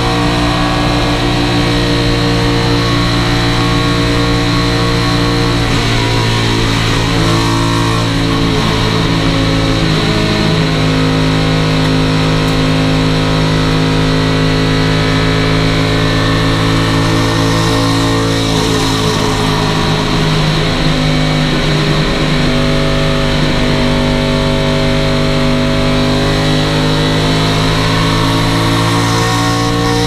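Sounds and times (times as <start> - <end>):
race car engine at high revs: 0.0 - 30.0.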